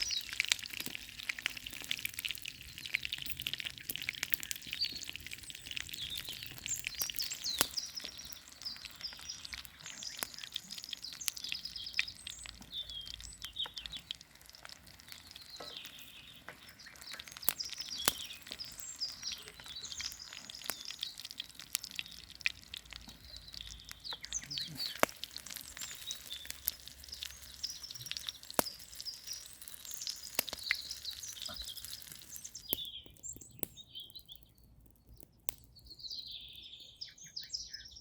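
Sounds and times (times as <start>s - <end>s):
food sizzling over campfire: 0.0s - 37.8s
small birds chirping: 0.0s - 38.0s.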